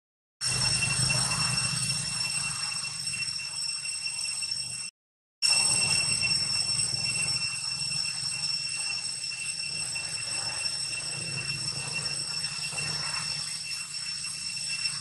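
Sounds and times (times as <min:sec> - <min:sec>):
high-pitched insect drone: 0:00.4 - 0:15.0.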